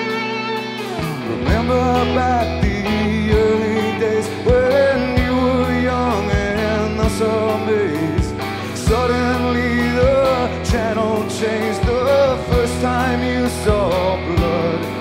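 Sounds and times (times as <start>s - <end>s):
live rock band: 0.0s - 15.0s
man singing: 1.2s - 15.0s.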